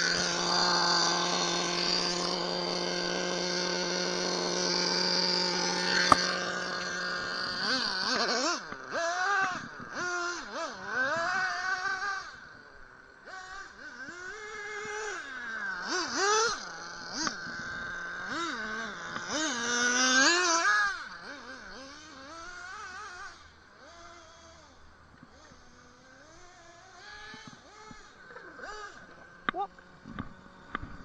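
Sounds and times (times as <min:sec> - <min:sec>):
electric motor whining: 0:00.0 - 0:31.0.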